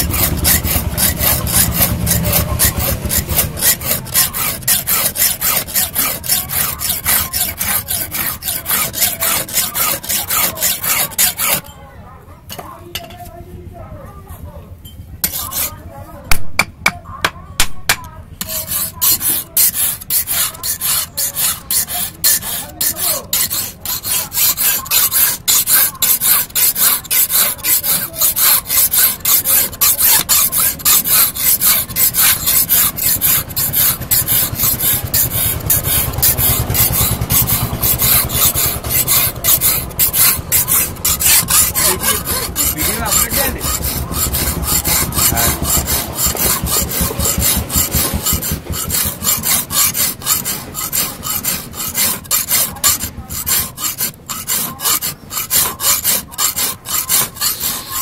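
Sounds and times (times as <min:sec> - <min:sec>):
hand file rasping on steel: 0:00.0 - 0:11.8, 0:15.2 - 0:58.0.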